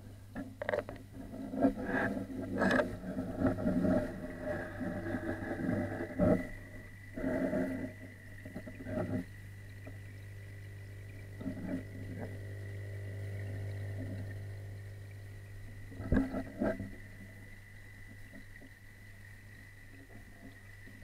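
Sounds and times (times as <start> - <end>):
muffled underwater hum: 0.0 - 21.0
soft underwater knocks and rumbles: 0.3 - 18.8
faint high whine: 1.2 - 21.0.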